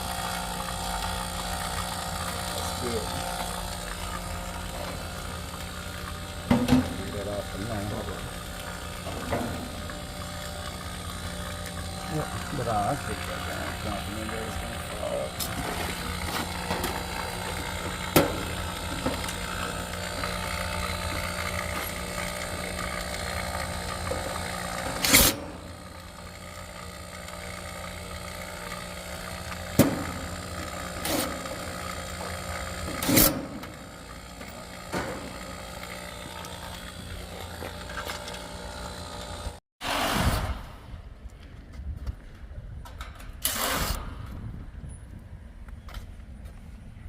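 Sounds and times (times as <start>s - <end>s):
steady mechanical drone: 0.0s - 47.0s.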